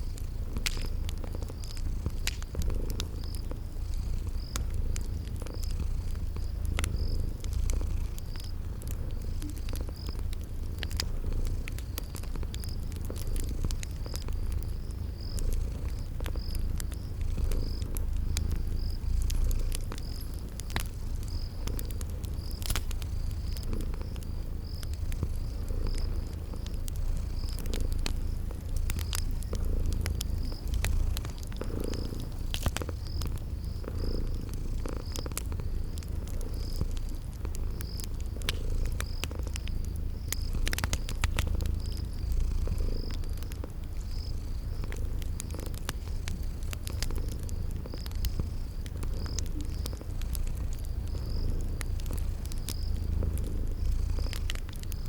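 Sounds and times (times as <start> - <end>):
cat purring: 0.0 - 55.0
cricket chirping: 0.0 - 55.0
wood fire crackling: 0.0 - 55.0.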